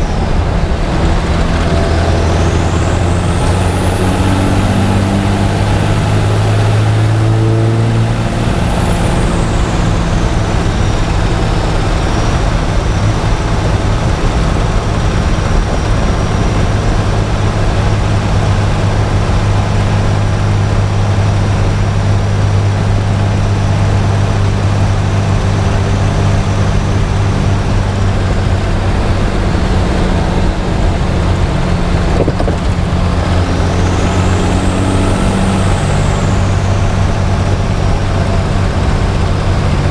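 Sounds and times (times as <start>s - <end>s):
diesel engine droning: 0.0s - 39.9s
turbocharger whistling: 0.0s - 39.9s.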